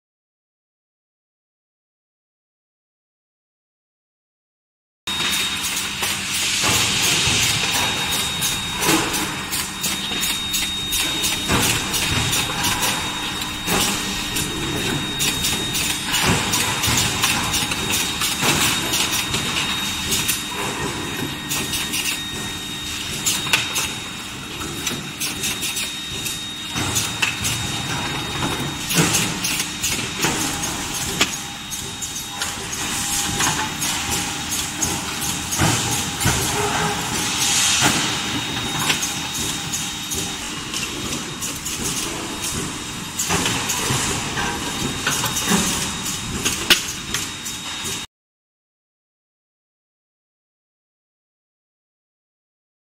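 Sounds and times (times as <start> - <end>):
furnace high whine: 5.1 - 48.1.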